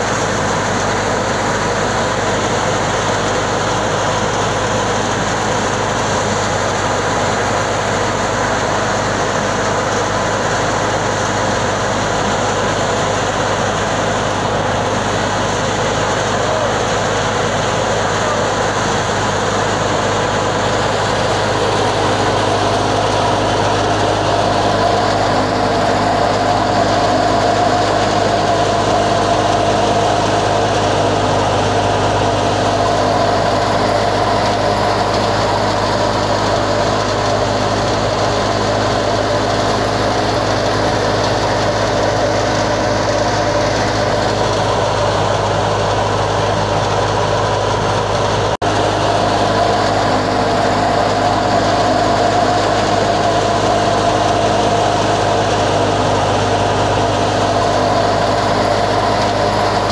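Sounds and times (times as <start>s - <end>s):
thresher machine drone: 0.0s - 59.9s.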